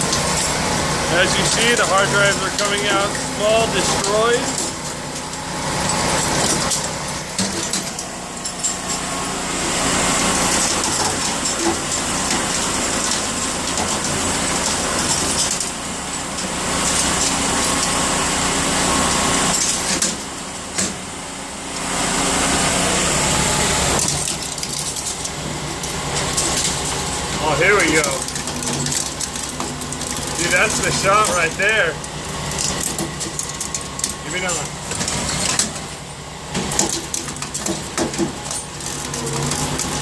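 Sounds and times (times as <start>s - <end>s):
cutters grinding hard drives: 0.0s - 40.0s
shredder motor humming: 0.0s - 40.0s.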